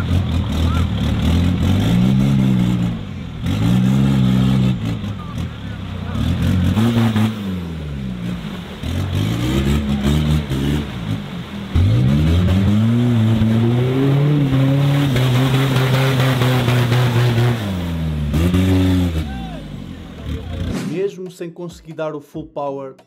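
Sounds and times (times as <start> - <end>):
diesel engine revving: 0.0 - 21.1.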